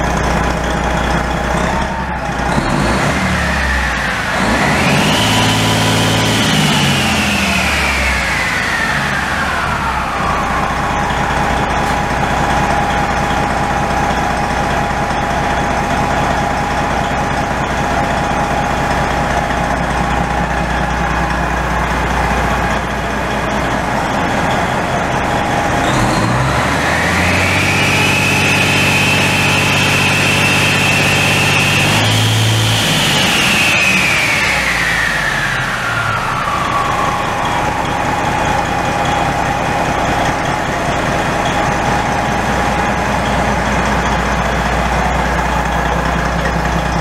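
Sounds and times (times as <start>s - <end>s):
diesel engine hum: 0.0s - 47.0s
turbocharger whine: 0.0s - 47.0s.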